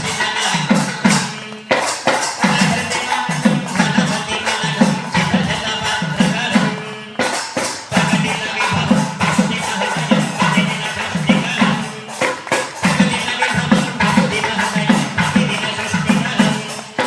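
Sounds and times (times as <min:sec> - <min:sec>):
music with fast beat: 0:00.0 - 0:17.0
shaker percussion: 0:00.0 - 0:17.0.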